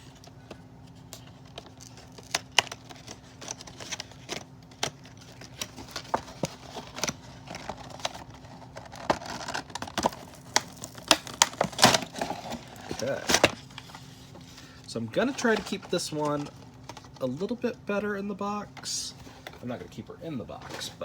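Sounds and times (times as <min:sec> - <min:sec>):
packaging crinkling: 0:00.0 - 0:17.2.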